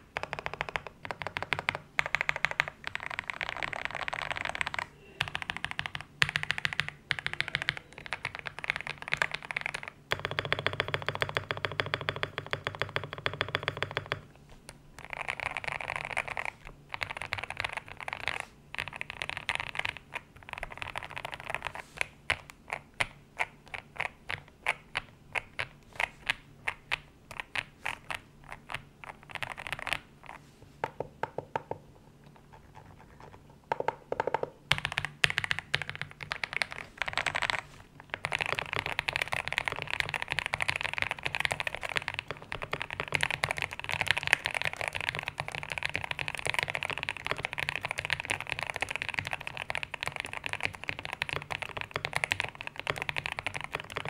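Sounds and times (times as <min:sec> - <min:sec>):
typing on mechanical keyboard: 0:00.0 - 0:14.2, 0:15.0 - 0:30.4, 0:32.8 - 0:54.0.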